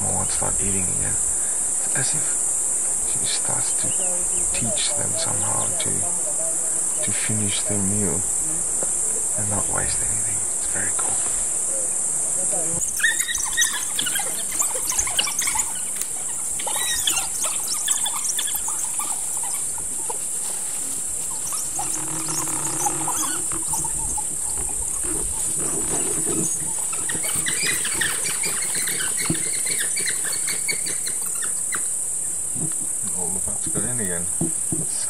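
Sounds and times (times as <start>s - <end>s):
high insect drone: 0.0s - 35.0s
wild dogs twittering and squealing: 0.0s - 35.0s.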